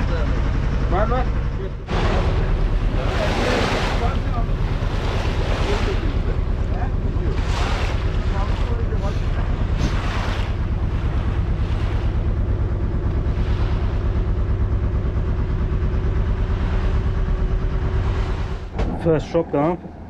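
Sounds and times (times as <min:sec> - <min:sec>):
boat engine running: 0:00.0 - 0:20.0
water splashing along hull: 0:00.0 - 0:20.0.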